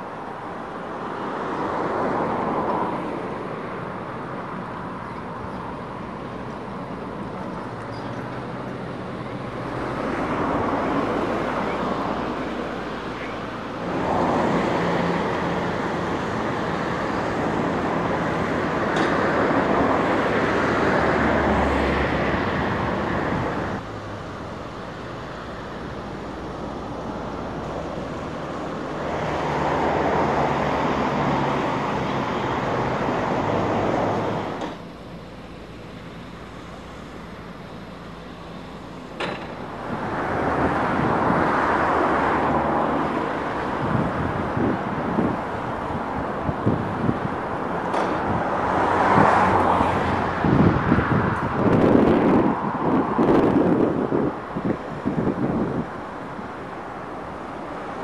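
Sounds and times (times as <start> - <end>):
excavator diesel engine running: 0.0 - 52.6.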